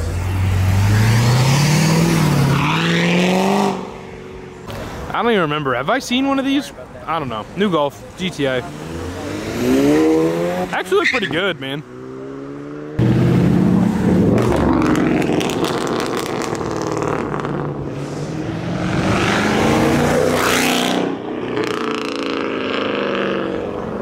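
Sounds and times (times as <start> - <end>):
car engine revving: 0.0 - 5.0, 8.6 - 24.0.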